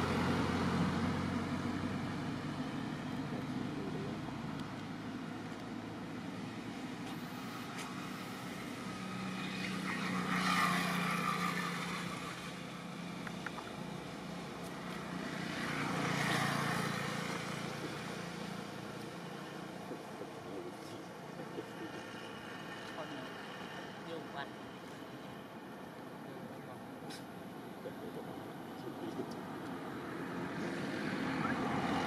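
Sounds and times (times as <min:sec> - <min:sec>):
motor vehicles passing: 0:00.0 - 0:32.0.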